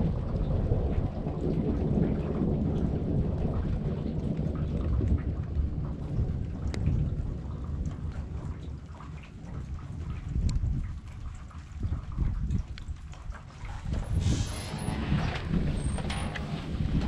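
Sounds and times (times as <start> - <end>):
raindrops ticking: 0.0 - 14.2
thunder rumbling: 0.0 - 17.0.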